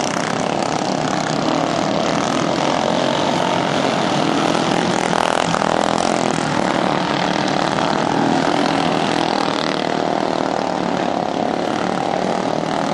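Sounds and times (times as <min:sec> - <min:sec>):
lawn mower engines at high revs: 0:00.0 - 0:12.9.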